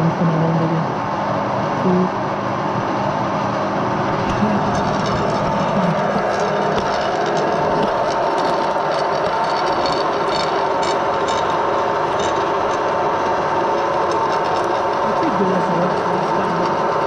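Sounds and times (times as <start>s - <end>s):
metal lathe running: 2.2s - 17.0s.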